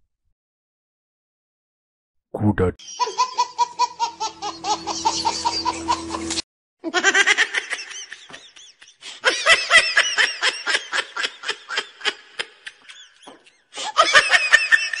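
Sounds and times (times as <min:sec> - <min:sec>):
high-pitched laughter: 0:02.8 - 0:15.0.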